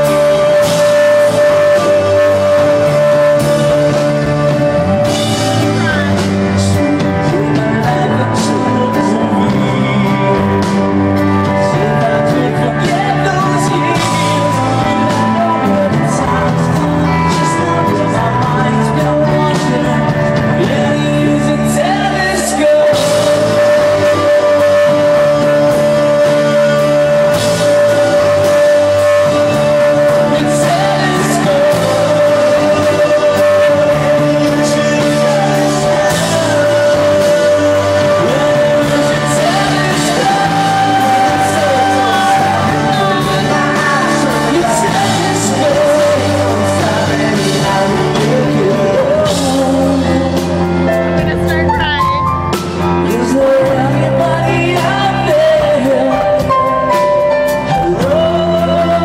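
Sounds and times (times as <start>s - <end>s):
drums: 0.0s - 59.0s
electric guitar: 0.0s - 59.0s
grand piano: 0.0s - 59.0s
man singing: 0.0s - 59.0s.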